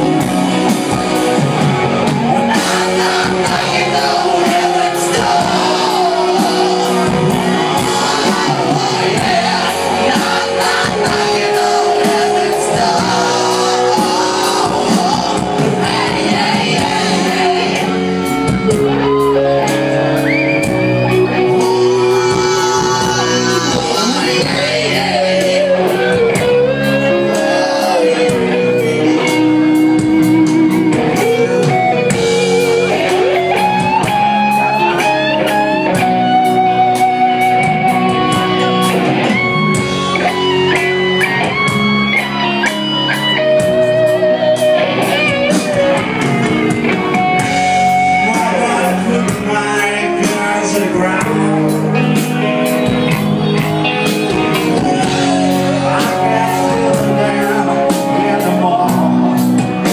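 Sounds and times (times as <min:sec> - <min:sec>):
rock band playing: 0:00.0 - 0:59.9
person singing: 0:02.1 - 0:41.7, 0:42.3 - 0:59.9.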